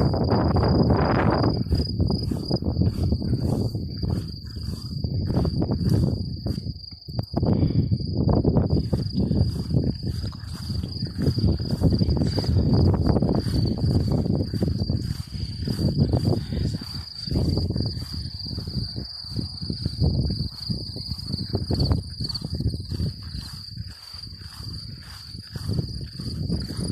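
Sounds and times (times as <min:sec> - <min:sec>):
insects trilling: 0:00.0 - 0:26.9.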